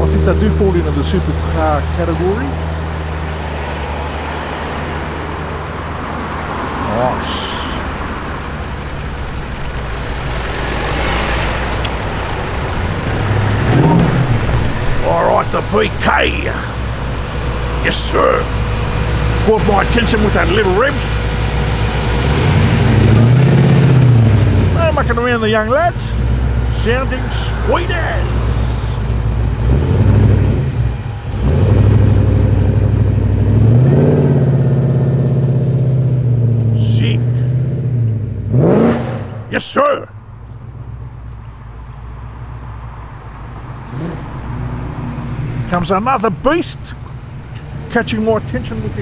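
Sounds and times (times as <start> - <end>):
car engine rumbling: 0.0 - 49.0.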